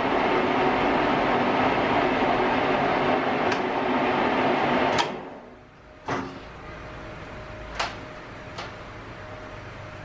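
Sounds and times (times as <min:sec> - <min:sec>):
lathe machine hum: 0:00.0 - 0:10.0.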